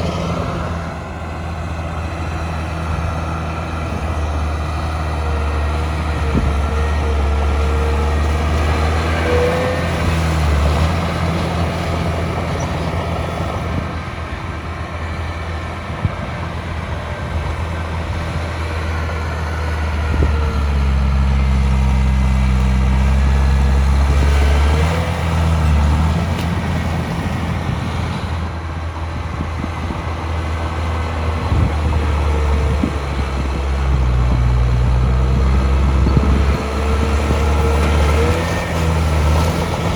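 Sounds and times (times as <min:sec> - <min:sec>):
heavy diesel engine working: 0:00.0 - 0:39.9.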